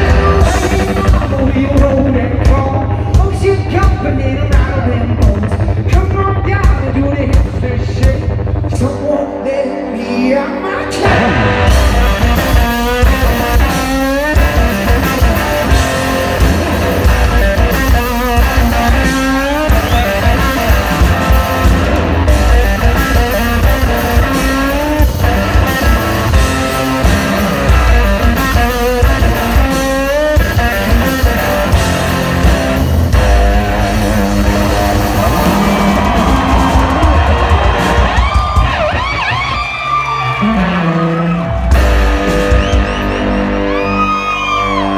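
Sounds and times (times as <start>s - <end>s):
heavy drums: 0.0s - 9.5s, 10.8s - 44.9s
distorted electric guitar lead: 0.0s - 44.9s.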